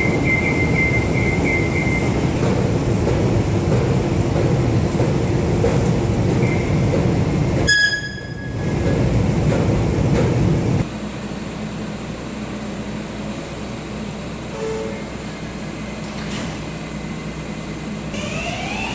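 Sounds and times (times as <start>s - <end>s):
subway train rumbling: 0.0s - 18.9s.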